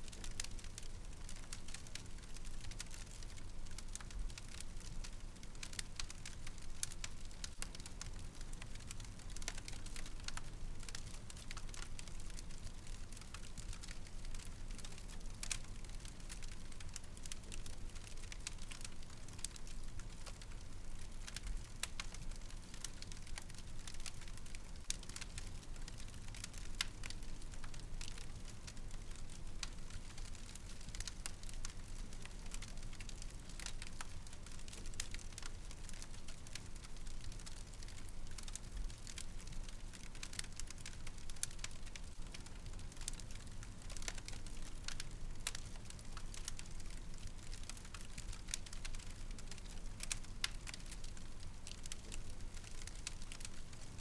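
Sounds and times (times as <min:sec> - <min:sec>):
low rumble of burning: 0:00.0 - 0:54.0
wood fire crackling: 0:00.0 - 0:54.0.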